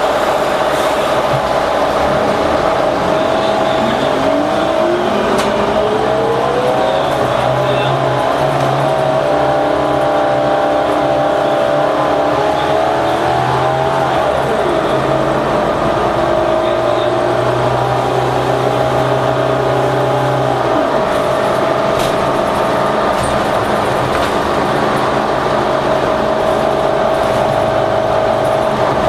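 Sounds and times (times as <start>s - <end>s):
bus diesel engine humming: 0.0s - 29.0s
engine whine: 0.0s - 29.0s.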